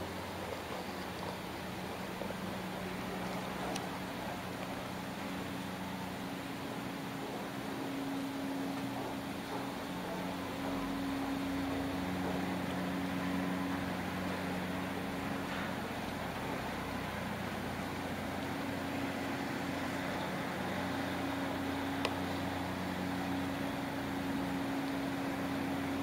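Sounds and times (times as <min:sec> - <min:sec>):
ferry machinery drone: 0:00.0 - 0:26.0
held hum tones: 0:00.0 - 0:26.0.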